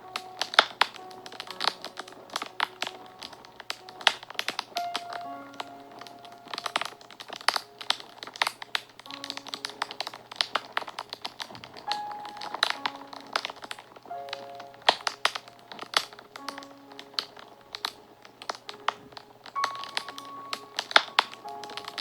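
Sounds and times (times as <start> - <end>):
fire crackling and popping: 0.0 - 22.0
soft background music: 0.0 - 22.0.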